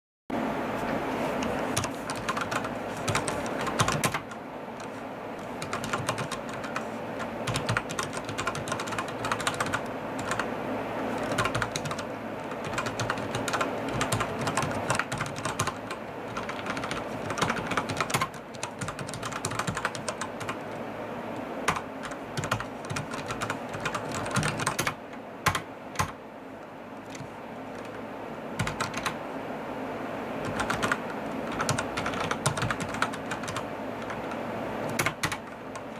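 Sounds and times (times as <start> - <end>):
mechanical keyboard typing: 1.7 - 10.5, 11.1 - 20.8, 21.6 - 26.2, 27.0 - 28.0, 28.6 - 29.2, 30.4 - 35.9.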